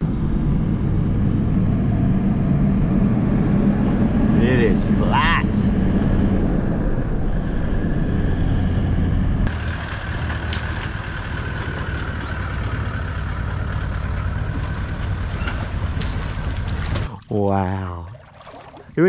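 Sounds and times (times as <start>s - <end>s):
vehicle engine running: 0.0s - 17.1s.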